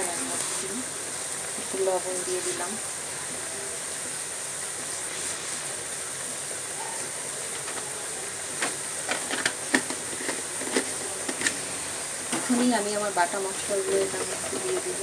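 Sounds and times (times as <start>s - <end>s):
pot simmering with hiss: 0.0s - 15.0s.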